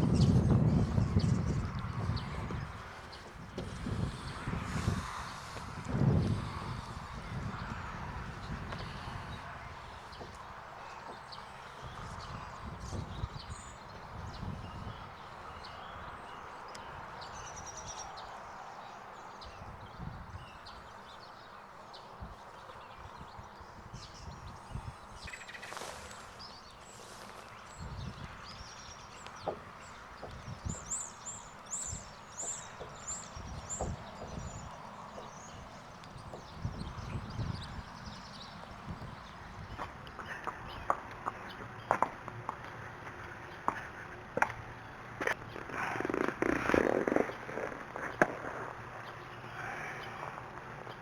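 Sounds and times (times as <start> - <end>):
horse hooves on soft ground: 0.0 - 18.4, 24.2 - 51.0
small birds chirping: 0.0 - 51.0.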